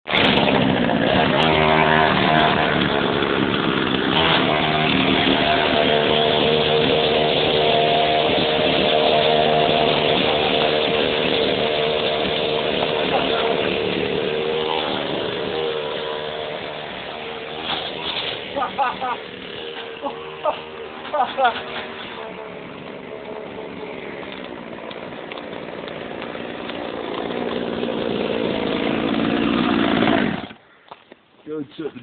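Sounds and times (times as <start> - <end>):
scooter engine running: 0.1 - 30.6.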